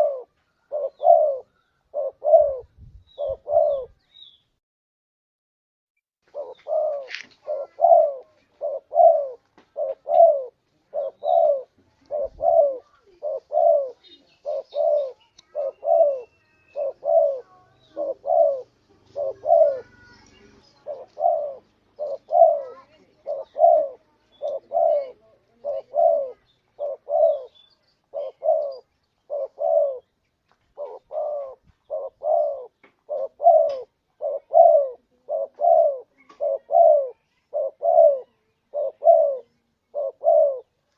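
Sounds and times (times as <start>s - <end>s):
dove cooing: 0.0s - 4.0s, 6.3s - 40.8s.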